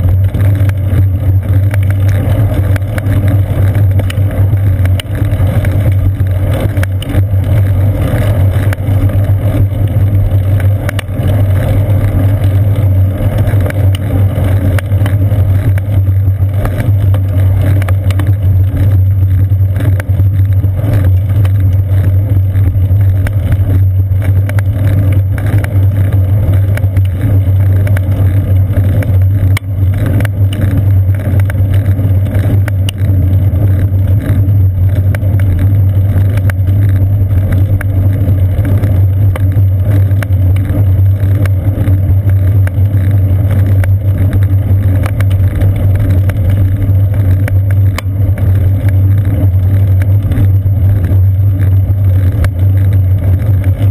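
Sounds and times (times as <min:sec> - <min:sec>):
bicycle rolling on pavement: 0:00.0 - 0:53.9.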